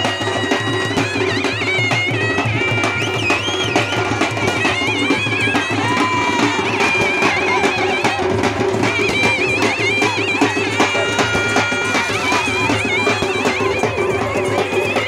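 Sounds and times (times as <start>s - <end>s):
steady drumming: 0.0s - 15.0s
wind instrument high melody: 0.0s - 15.0s.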